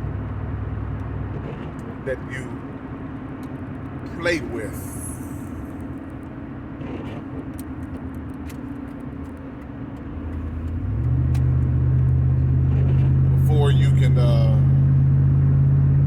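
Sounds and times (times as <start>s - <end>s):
low engine drone: 0.0s - 16.0s
road and engine rumble: 0.0s - 16.0s.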